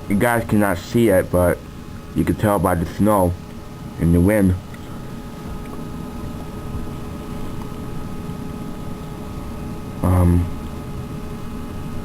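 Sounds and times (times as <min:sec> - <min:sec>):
faint hum of thin tones: 0:00.0 - 0:12.0.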